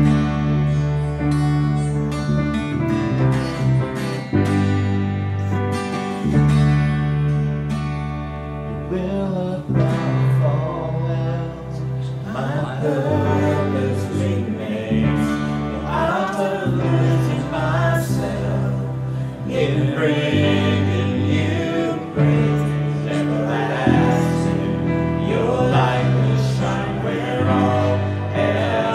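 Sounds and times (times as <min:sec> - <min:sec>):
guitar-led band music: 0:00.0 - 0:28.9.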